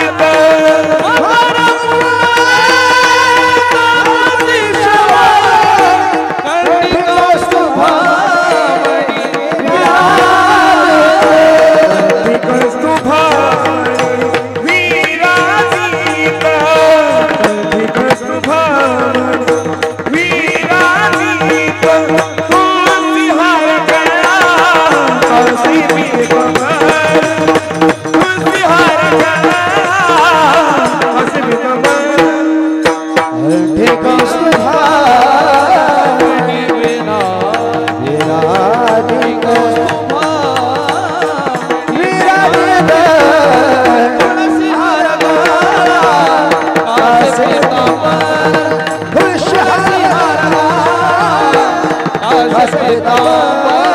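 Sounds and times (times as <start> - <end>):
hand drum playing: 0.0 - 53.9
man singing devotional melody: 0.0 - 53.9.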